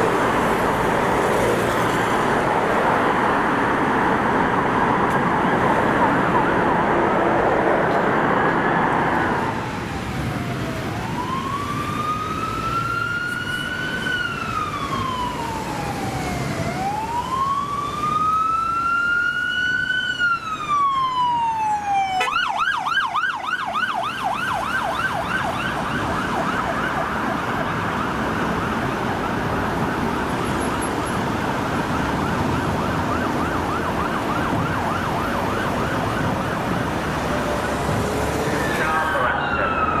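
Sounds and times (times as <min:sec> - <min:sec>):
emergency siren wailing and yelping: 0:00.0 - 0:40.0
fire engine road and engine noise: 0:00.0 - 0:40.0.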